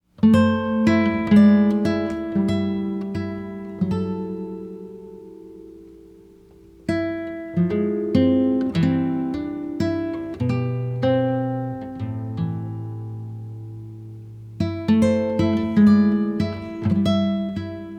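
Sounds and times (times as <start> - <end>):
acoustic guitar music: 0.0 - 17.9.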